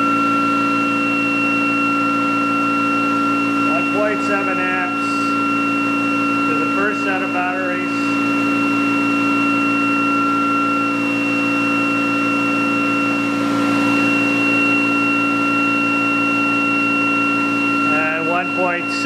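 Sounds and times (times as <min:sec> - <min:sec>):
generator hum: 0:00.0 - 0:19.0
high whine: 0:00.0 - 0:19.0.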